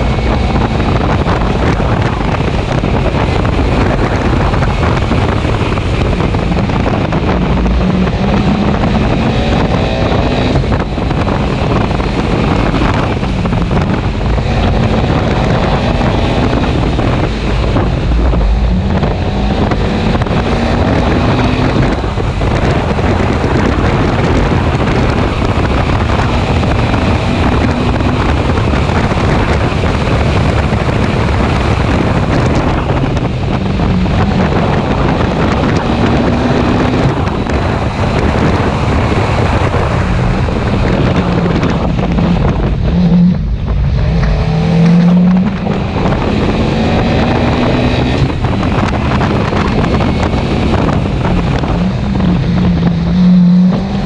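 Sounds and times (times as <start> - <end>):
car engine running hard: 0.0 - 54.0
road noise: 0.0 - 54.0
wind noise: 0.0 - 54.0.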